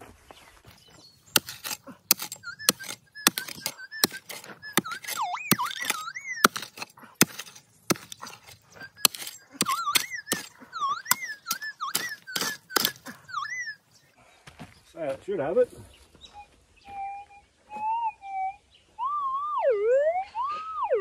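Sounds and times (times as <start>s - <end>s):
pick-mattock striking gravelly ground: 0.0s - 17.1s
bird singing: 0.3s - 15.2s, 15.9s - 21.0s.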